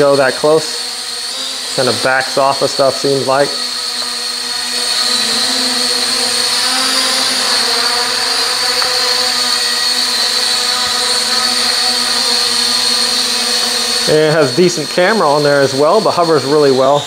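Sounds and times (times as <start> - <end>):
toy drone buzzing hum: 0.0 - 17.0.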